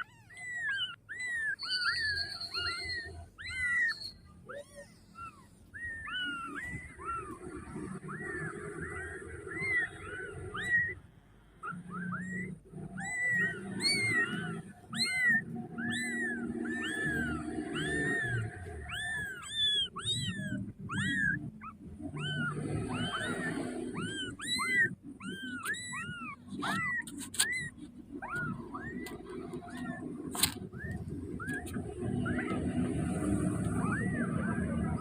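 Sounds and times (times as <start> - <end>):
kittens mewing: 0.0 - 35.0.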